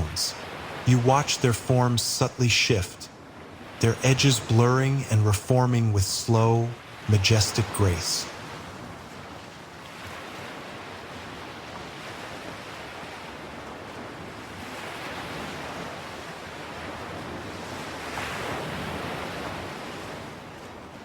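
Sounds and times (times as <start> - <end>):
ocean waves washing ashore: 0.0 - 21.0.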